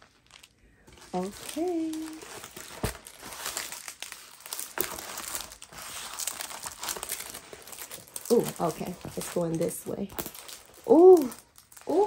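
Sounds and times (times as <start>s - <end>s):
canvas and paper crinkling: 0.0s - 12.0s.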